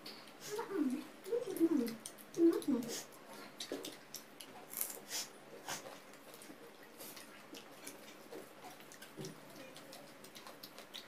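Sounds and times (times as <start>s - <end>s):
chewing and lip-smacking: 0.0s - 11.0s
fingers mixing rice: 0.0s - 11.0s.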